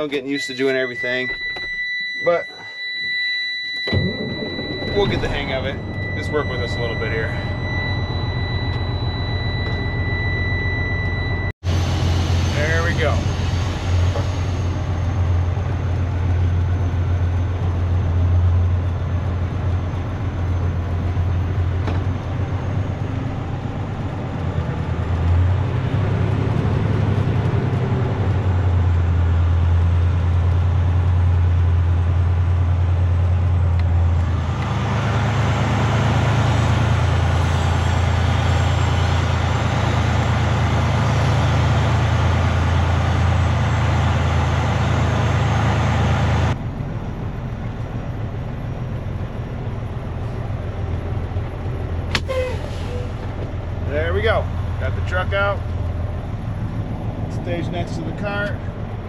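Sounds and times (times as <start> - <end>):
diesel truck engine droning: 3.7 - 59.0.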